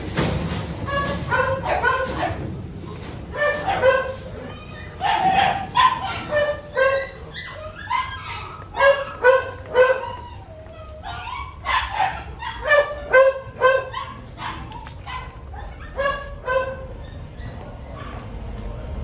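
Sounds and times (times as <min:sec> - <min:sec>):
dogs barking: 0:00.9 - 0:02.6, 0:03.3 - 0:18.8.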